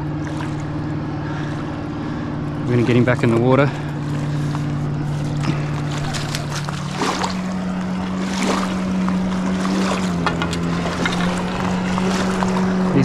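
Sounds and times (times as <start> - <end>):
motorboat engine humming: 0.0 - 13.0.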